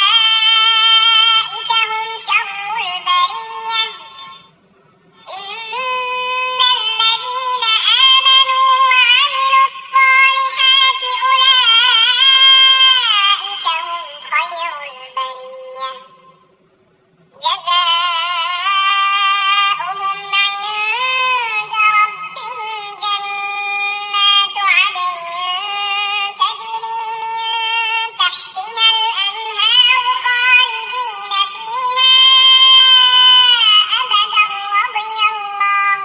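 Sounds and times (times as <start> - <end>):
high-pitched synthetic chanting voice: 0.0 - 4.5, 5.1 - 16.4, 17.4 - 36.0.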